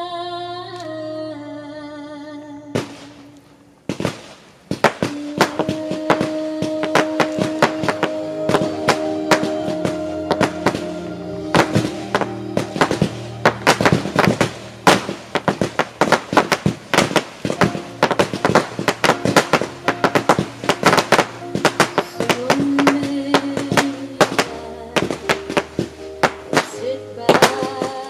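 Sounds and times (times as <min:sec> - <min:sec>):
fireworks bangs and crackles: 0:03.9 - 0:28.0
music playing: 0:05.1 - 0:28.0.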